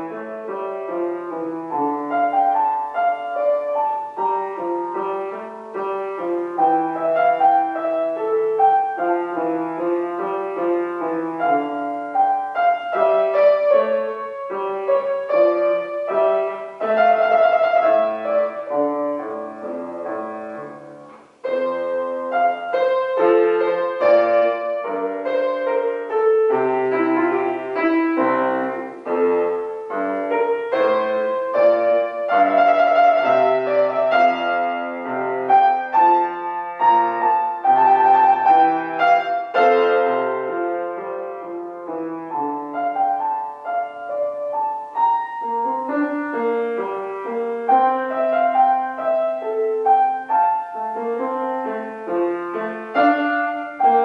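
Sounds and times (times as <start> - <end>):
classical grand piano piece: 0.0 - 54.0.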